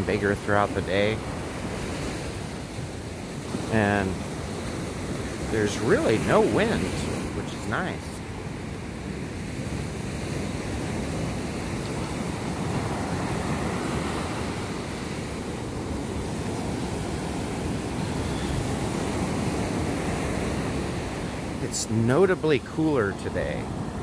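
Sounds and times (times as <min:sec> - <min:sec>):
ocean surf on a beach: 0:00.0 - 0:24.0.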